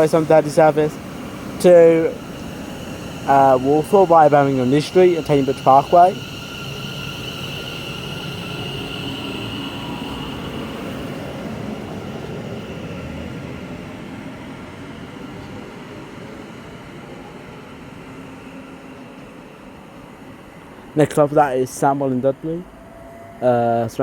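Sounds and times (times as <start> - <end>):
electric train pulling away: 0.0 - 24.0
high whine: 0.0 - 24.0.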